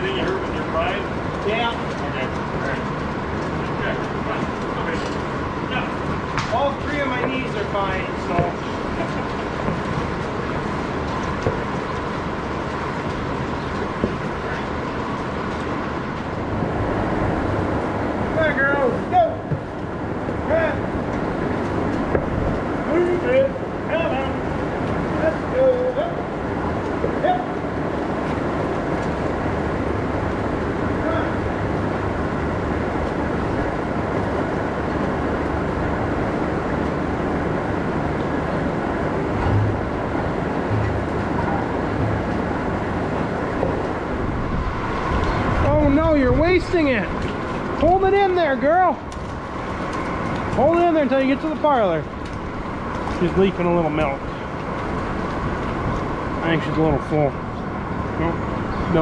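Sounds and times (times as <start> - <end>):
machinery hum and rumble: 0.0 - 59.0.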